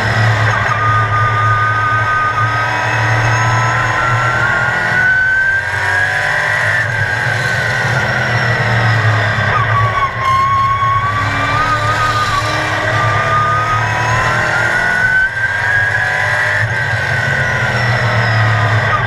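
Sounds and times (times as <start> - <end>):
race car engine at racing speed: 0.0 - 19.0.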